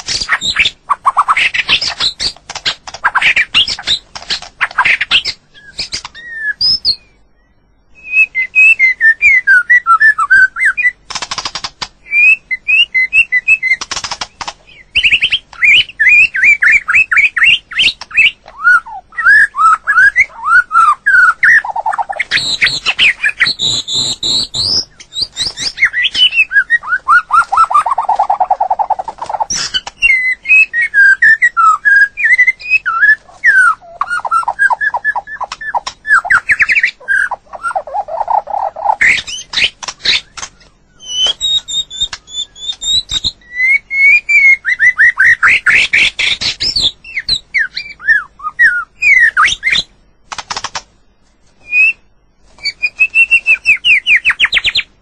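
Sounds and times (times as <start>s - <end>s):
songbird singing varied song: 0.1s - 11.1s, 12.0s - 50.0s, 51.6s - 55.0s.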